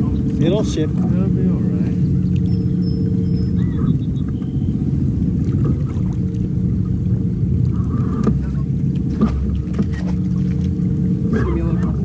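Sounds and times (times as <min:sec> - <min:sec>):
boat motor rumbling: 0:00.0 - 0:12.0.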